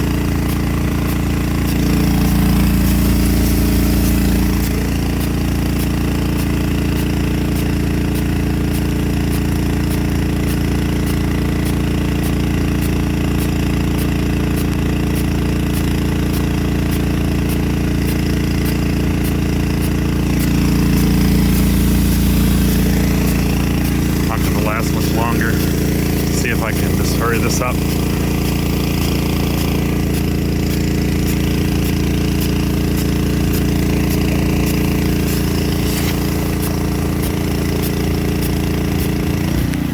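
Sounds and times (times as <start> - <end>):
sprinkler drive arm ticking: 0.0 - 39.8
engine running steadily: 0.0 - 39.9
sprinkler spray hiss: 0.0 - 39.9.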